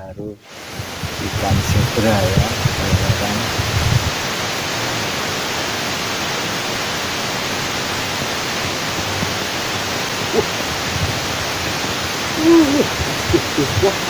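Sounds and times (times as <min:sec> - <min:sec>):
water rushing: 0:00.4 - 0:14.0.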